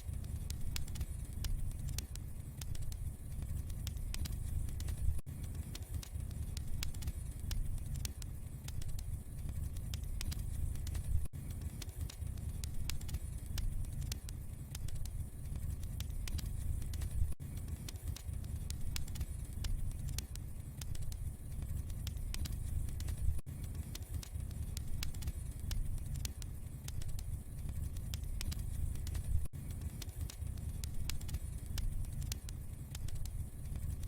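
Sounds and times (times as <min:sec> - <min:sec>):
wood fire crackling: 0:00.2 - 0:34.0.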